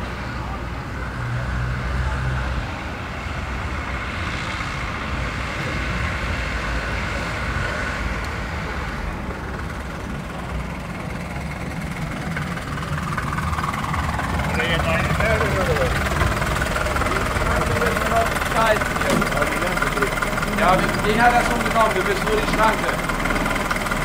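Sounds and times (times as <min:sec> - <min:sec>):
railbus engine rumble: 0:00.0 - 0:24.0.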